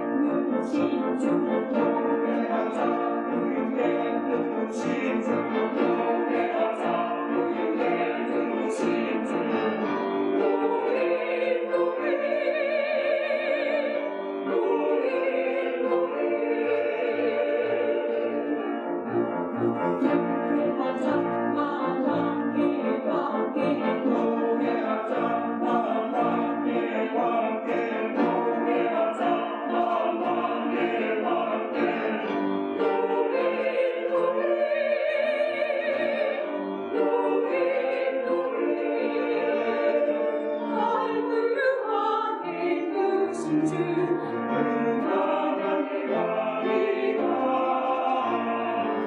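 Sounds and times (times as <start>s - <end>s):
choir singing: 0.0s - 49.0s
instrumental accompaniment: 0.0s - 49.0s.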